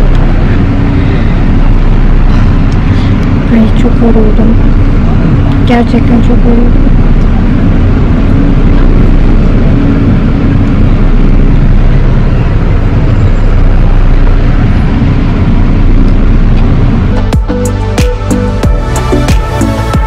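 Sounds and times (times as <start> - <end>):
bus engine rumble: 0.0 - 20.0
faint hum: 0.0 - 20.0.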